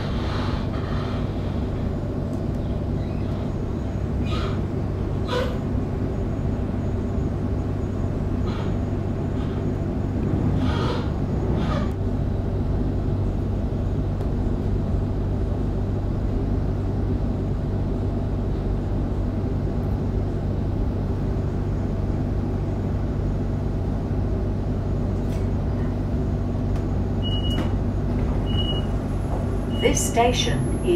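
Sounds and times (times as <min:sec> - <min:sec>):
electric train rumble and hum: 0:00.0 - 0:30.9.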